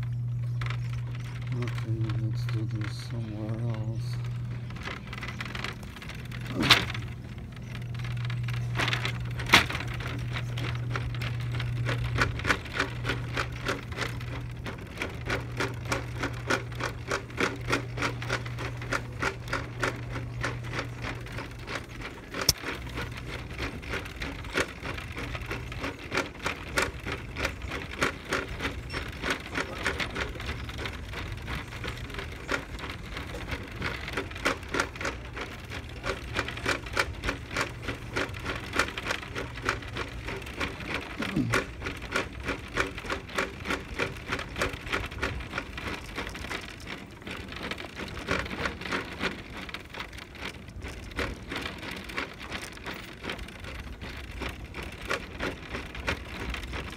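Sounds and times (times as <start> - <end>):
plastic shopping cart rattling: 0.5 - 56.9.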